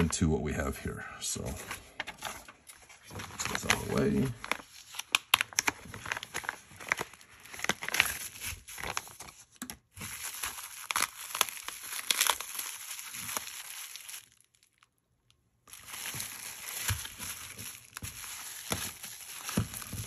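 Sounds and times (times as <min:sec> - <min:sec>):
plastic and bubble wrap crinkling: 0:01.4 - 0:15.0, 0:15.6 - 0:20.0.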